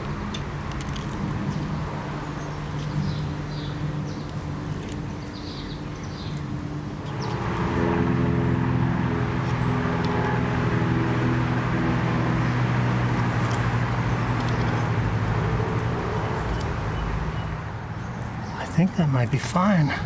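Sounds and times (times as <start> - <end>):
vehicle engine running: 0.8 - 18.3.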